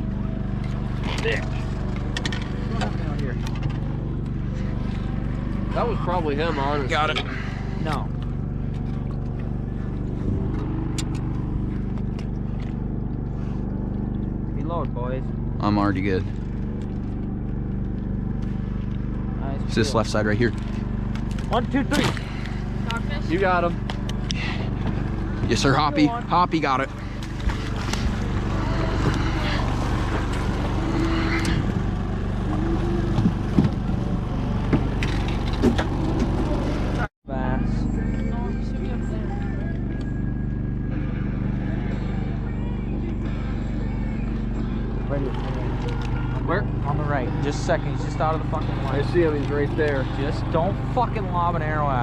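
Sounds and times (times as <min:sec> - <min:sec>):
small boat engine humming: 0:00.0 - 0:52.0.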